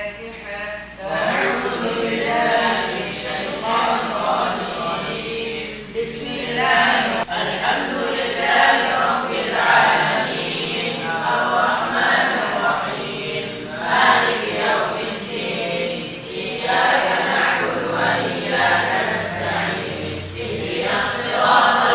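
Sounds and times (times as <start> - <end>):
boys chanting in unison: 0.8 - 21.9.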